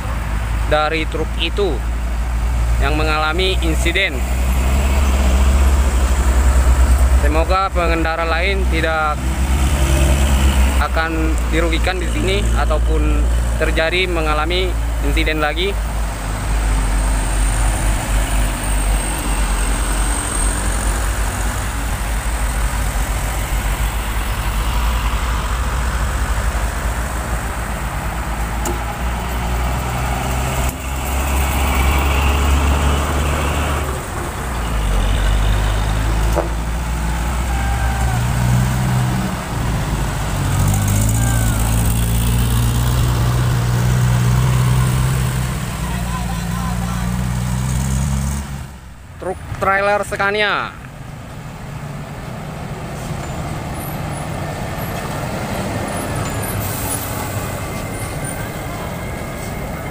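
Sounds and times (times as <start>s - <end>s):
steady engine hum: 0.0s - 49.6s
vehicles driving slowly past: 0.0s - 59.9s.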